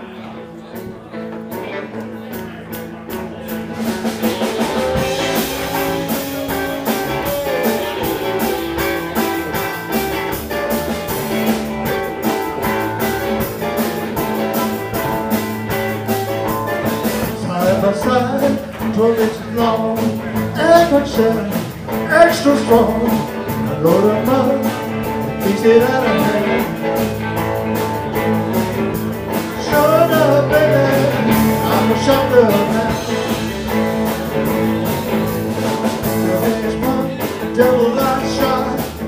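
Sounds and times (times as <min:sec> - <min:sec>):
drums: 0:00.0 - 0:39.0
electric guitar lead line: 0:00.0 - 0:39.0
electric guitars: 0:00.0 - 0:39.0
electric bass: 0:00.8 - 0:39.0.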